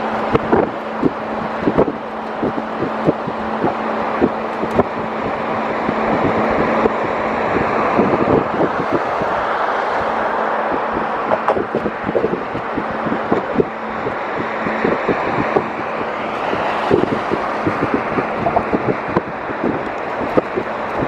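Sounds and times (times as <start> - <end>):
moving vehicle rushing noise: 0.0 - 21.0
wind buffeting microphone: 0.0 - 21.0.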